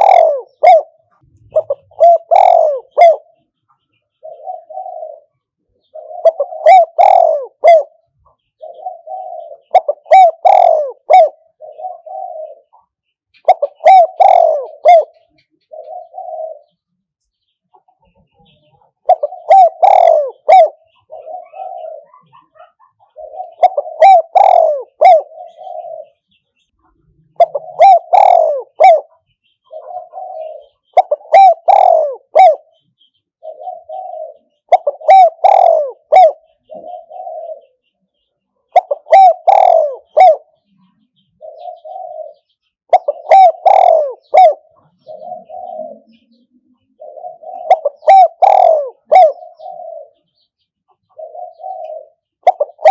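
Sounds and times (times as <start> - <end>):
dove cooing: 0.0 - 16.9, 17.7 - 52.9.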